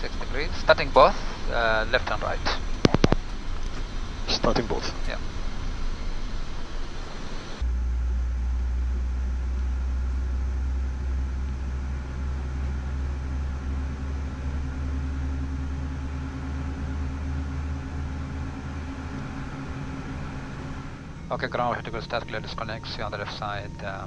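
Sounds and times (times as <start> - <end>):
jet engines starting up: 0.0 - 24.0.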